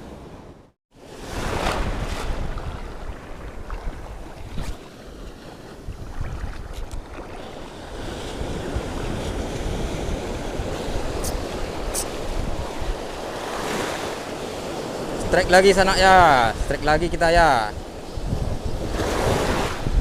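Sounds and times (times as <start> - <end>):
sea waves washing onto shore: 1.0 - 20.0
wind buffeting microphone: 1.3 - 20.0.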